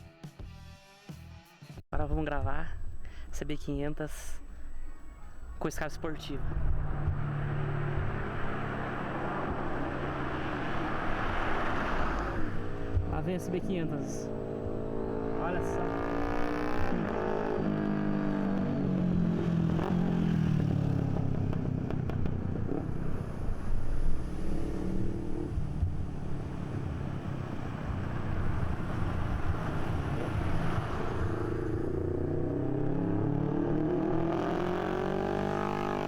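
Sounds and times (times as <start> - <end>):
motorcycle engine revving: 4.1 - 36.0.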